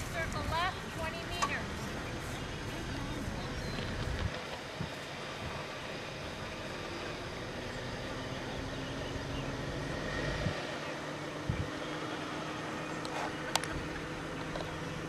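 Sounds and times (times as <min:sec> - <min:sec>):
faint low engine hum: 0:00.0 - 0:15.0.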